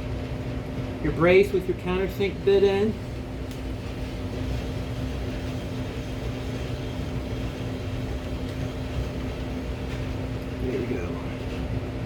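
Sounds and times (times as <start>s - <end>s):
constant background hum: 0.0s - 12.0s.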